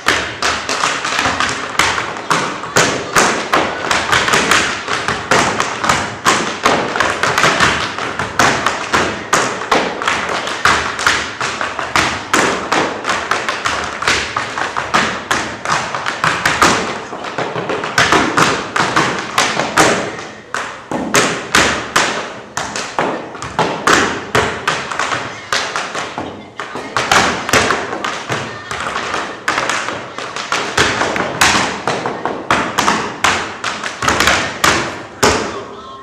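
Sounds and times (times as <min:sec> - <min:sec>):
tap shoes on wooden floor: 0:00.0 - 0:35.5.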